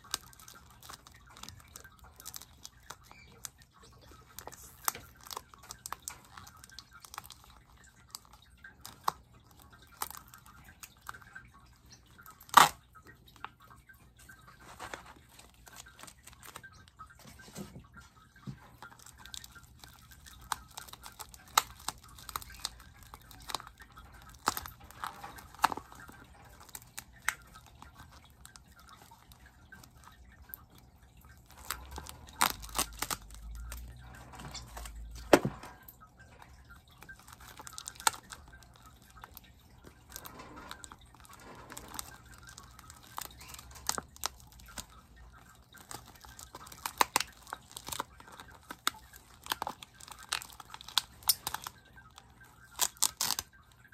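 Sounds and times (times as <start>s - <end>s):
plastic bag and paper crinkling: 0.0s - 53.9s.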